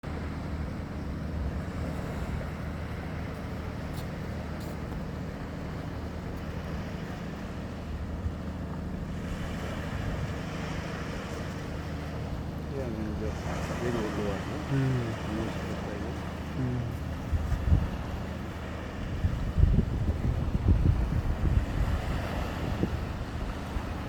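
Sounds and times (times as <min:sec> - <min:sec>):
boat engine humming: 0:00.0 - 0:24.0
water noise: 0:00.0 - 0:24.0
wind: 0:00.0 - 0:24.0.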